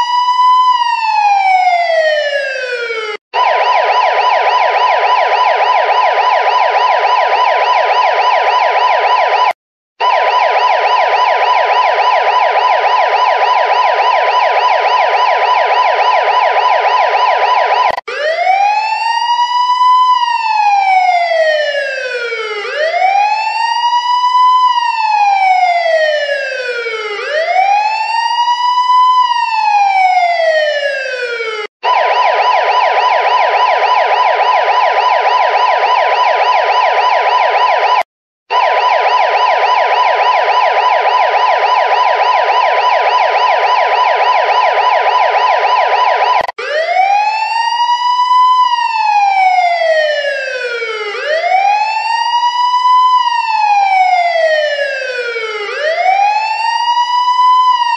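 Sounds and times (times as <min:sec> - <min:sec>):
police siren wail and yelp: 0:00.0 - 0:57.9.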